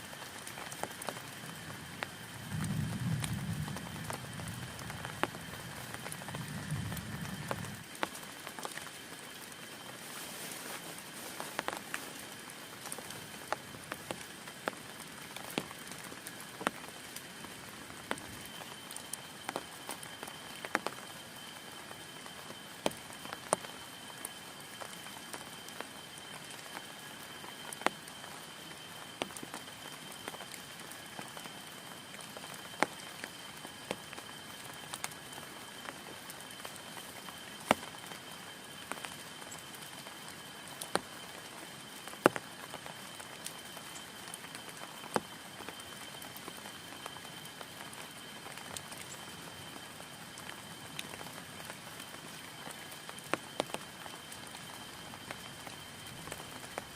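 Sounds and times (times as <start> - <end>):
rain on a tent: 0.0 - 56.9.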